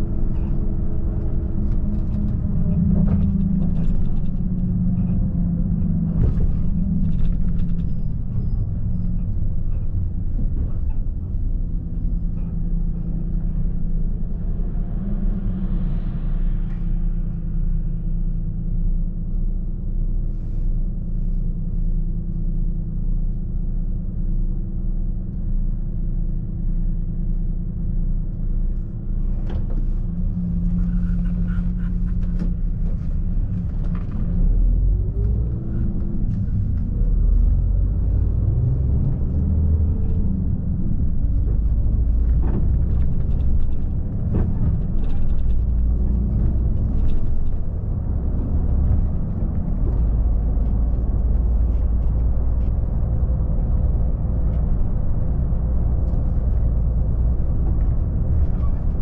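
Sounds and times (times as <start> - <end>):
light clicks and rattles: 0.0 - 16.1, 18.3 - 59.0
diesel coach engine droning: 0.0 - 59.0.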